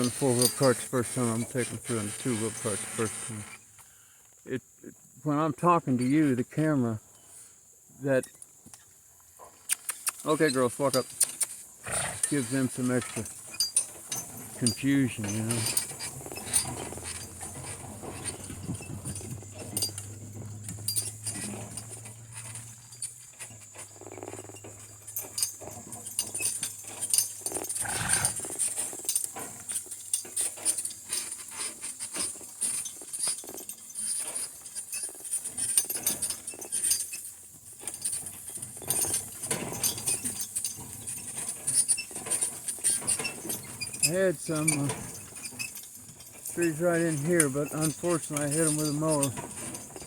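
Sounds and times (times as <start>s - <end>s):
harness and cart clinking: 0.0s - 3.8s, 8.1s - 50.0s.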